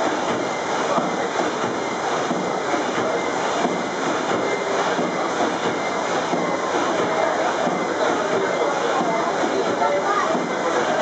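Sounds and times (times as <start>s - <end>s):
steam engine clatter: 0.0s - 11.0s.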